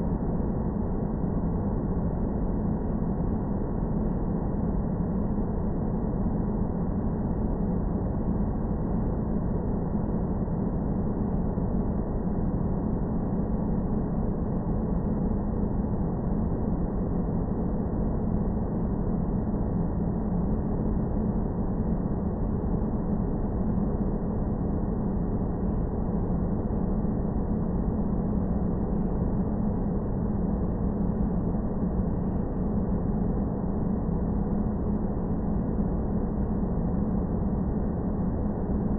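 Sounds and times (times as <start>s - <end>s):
dark low rumble and drone: 0.0s - 38.9s.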